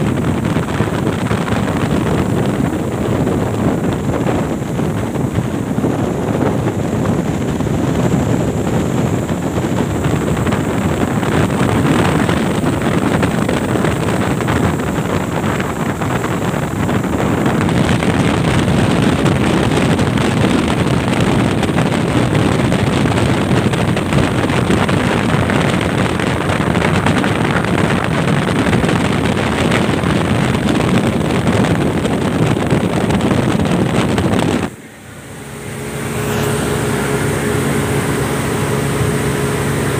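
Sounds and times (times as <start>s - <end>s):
water spray against hull: 0.0s - 34.9s, 35.5s - 39.9s
speedboat engine rushing: 0.0s - 39.9s
wind on microphone: 0.0s - 39.9s.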